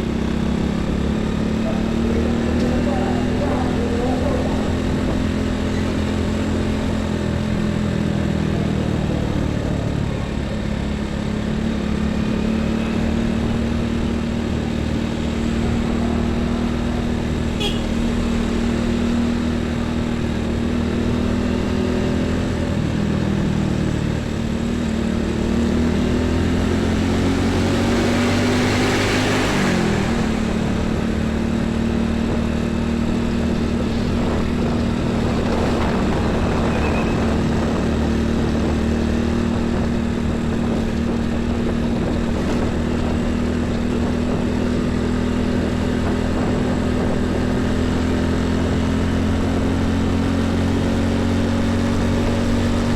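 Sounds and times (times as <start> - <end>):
heavy trucks engine drone: 0.0 - 52.9.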